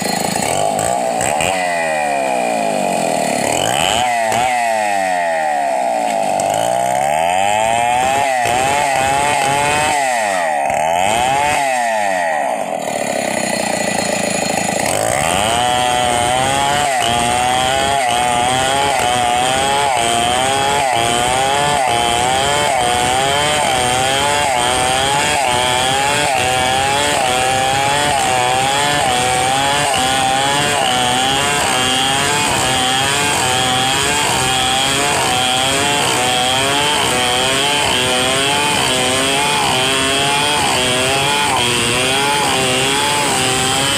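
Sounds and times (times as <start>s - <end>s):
chainsaw ripping a log: 0.0s - 43.9s.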